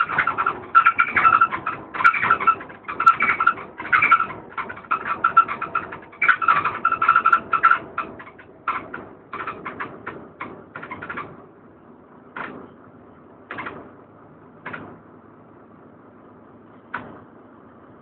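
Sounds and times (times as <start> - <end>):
bus running noise: 0.0 - 18.0.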